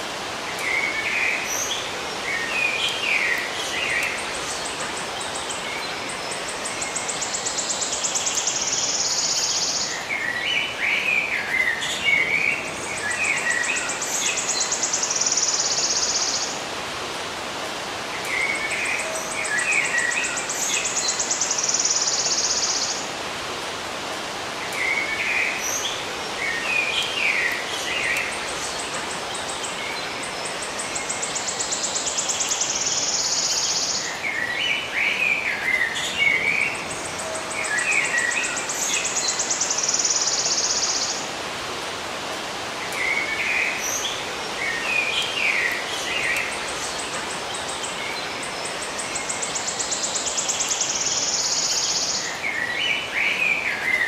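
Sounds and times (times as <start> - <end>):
songbirds chirping: 0.0 - 54.0
steady background hiss: 0.0 - 54.0.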